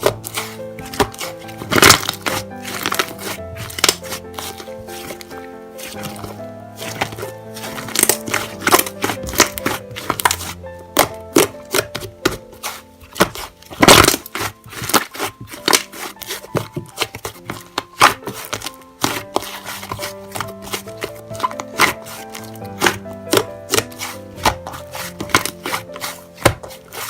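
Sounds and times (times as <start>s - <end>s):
slime crackling and popping: 0.0s - 27.0s
soft piano music: 0.0s - 27.0s.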